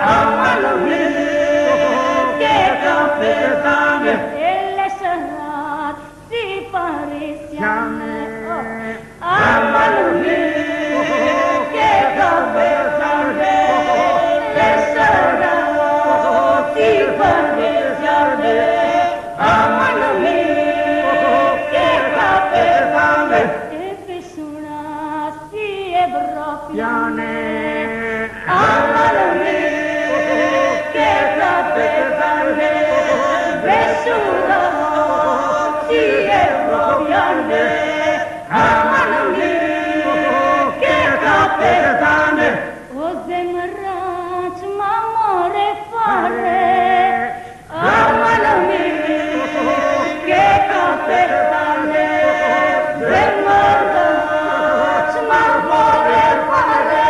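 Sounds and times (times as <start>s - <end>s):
group singing unaccompanied: 0.0s - 57.0s.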